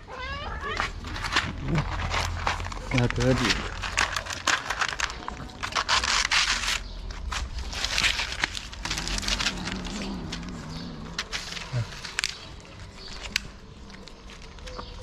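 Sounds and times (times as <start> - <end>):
cats chewing food: 0.0 - 15.0.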